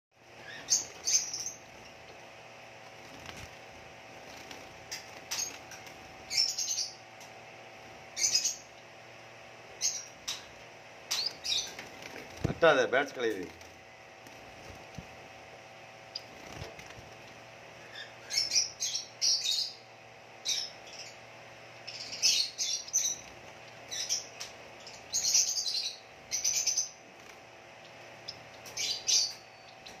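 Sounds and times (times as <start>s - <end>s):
finches chirping: 0.2s - 7.4s, 8.0s - 9.1s, 9.7s - 15.1s, 15.9s - 30.0s
wings fluttering: 0.2s - 8.6s, 9.7s - 18.6s, 22.1s - 30.0s
faint steady hum: 0.2s - 30.0s.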